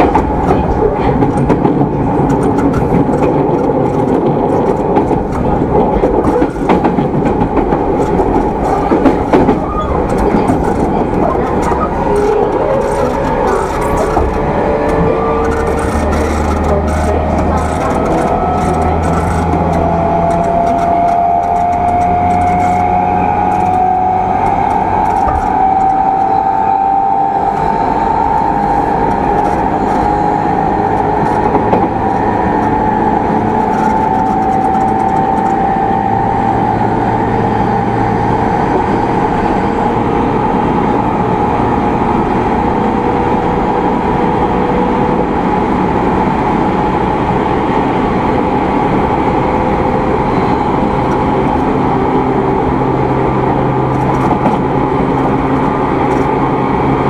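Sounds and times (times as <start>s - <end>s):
train motor hum: 0.0s - 57.0s
train wheels on rails: 0.0s - 57.0s.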